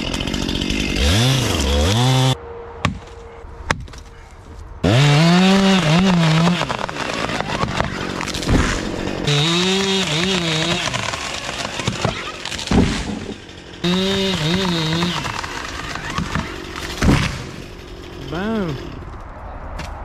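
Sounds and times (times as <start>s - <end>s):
chainsaw cutting wood: 0.0s - 2.4s, 4.8s - 19.1s.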